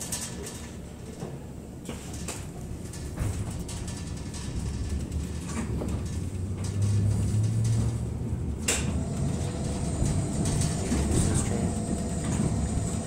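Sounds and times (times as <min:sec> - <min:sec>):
railway car rumbling: 0:00.0 - 0:13.0.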